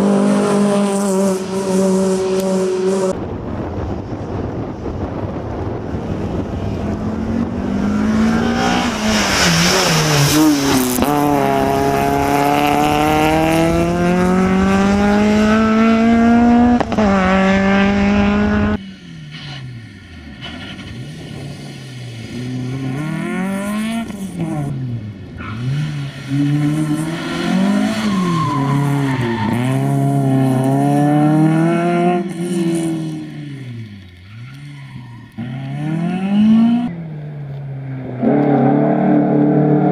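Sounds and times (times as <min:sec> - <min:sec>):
rally car engine at high revs: 0:00.0 - 0:03.2, 0:05.9 - 0:39.9.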